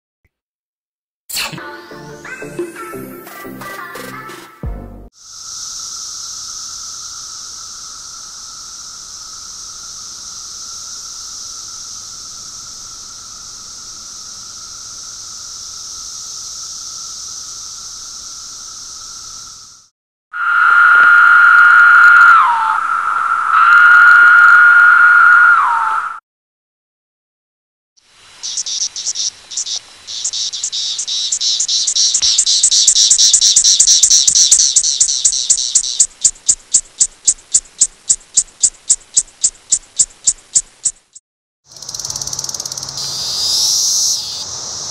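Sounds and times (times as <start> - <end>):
cicadas chorus hissing: 5.2 - 26.1, 28.0 - 44.9.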